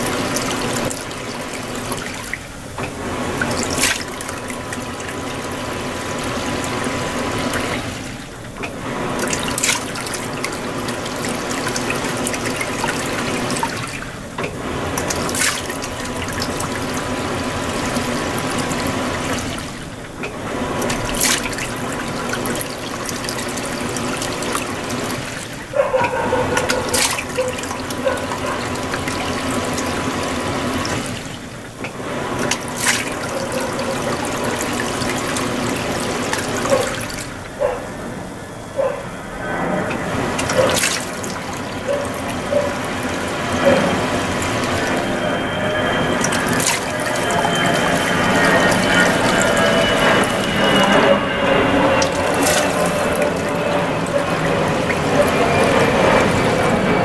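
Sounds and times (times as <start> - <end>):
washing machine motor hum: 0.0 - 57.0
water churning in washing machine: 0.0 - 57.0.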